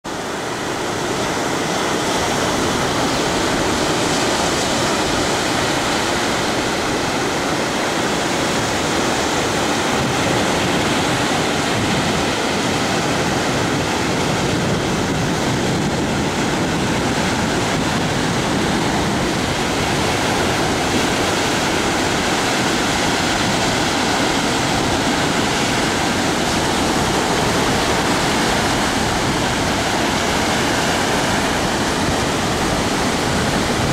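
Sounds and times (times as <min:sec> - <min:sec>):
small waves breaking on a beach: 0:00.1 - 0:33.9.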